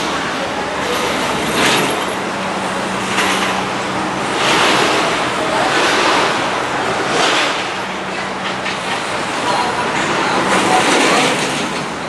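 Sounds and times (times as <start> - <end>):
ferry engine low hum: 0.0 - 12.0.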